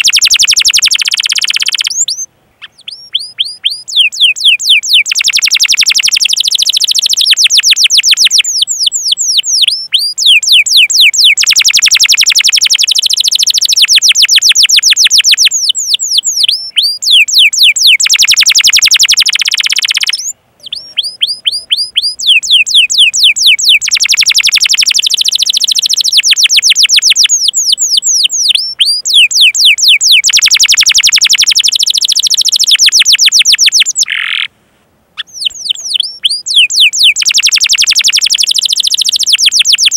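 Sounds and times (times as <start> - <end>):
canary singing: 0.0 - 34.5, 35.2 - 39.9.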